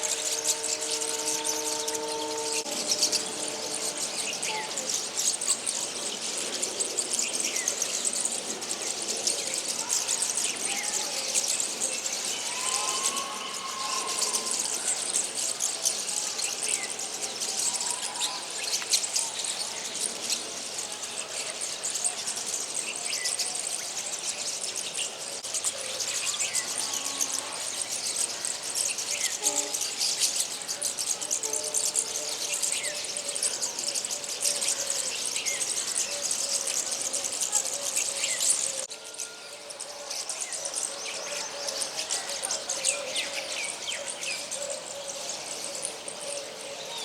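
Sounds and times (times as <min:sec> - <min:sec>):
small birds calling: 0:00.0 - 0:47.0.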